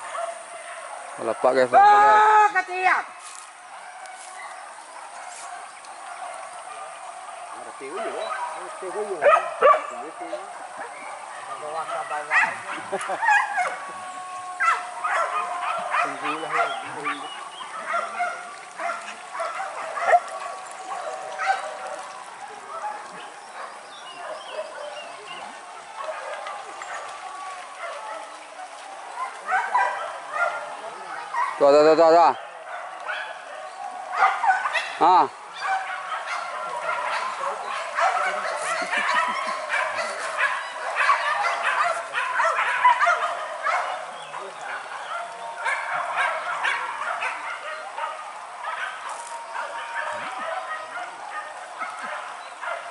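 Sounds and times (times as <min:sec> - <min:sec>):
dogs yelping and barking: 0:00.0 - 0:01.7, 0:02.7 - 0:52.9.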